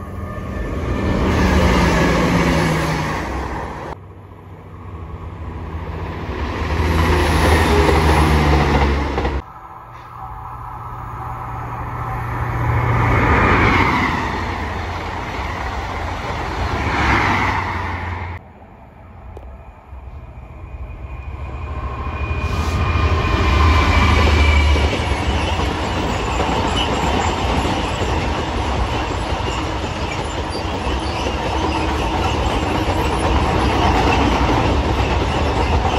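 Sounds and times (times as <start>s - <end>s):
diesel train engine hum: 0.0s - 35.9s
wheels rushing on rail: 0.0s - 35.9s.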